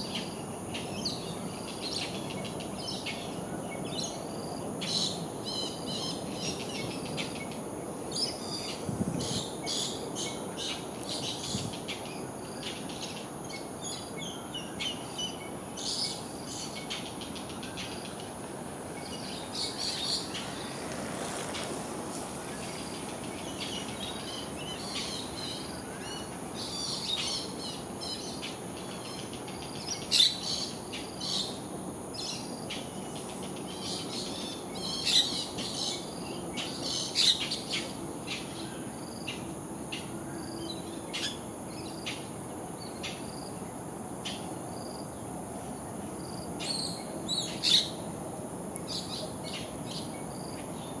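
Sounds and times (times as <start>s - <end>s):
insect buzz: 0.0s - 51.0s.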